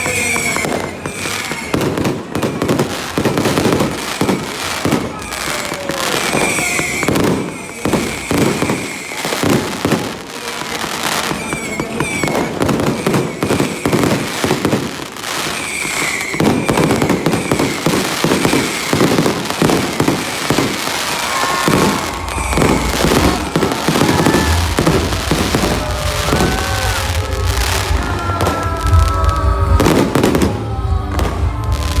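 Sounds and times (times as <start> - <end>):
falling firework whistles: 0.0 - 32.0
fireworks bangs and crackles: 0.0 - 32.0.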